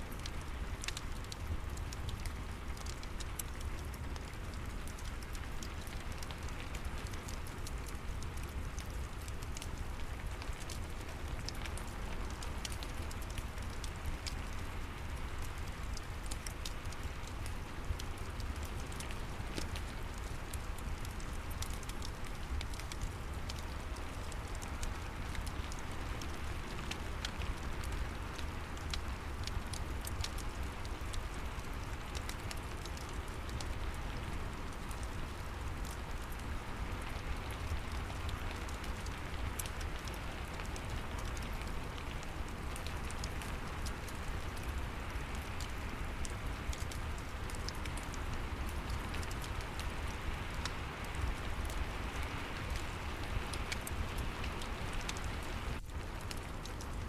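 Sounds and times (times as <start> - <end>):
steady rain hiss: 0.0 - 57.0
wood fire crackling: 0.0 - 57.0.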